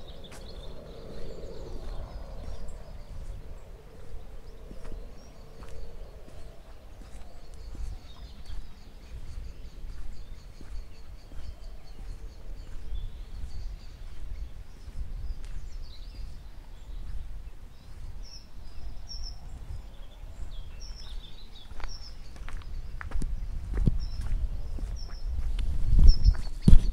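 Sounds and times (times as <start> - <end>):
small birds singing: 0.0 - 26.9
wind buffeting microphone: 0.0 - 26.9.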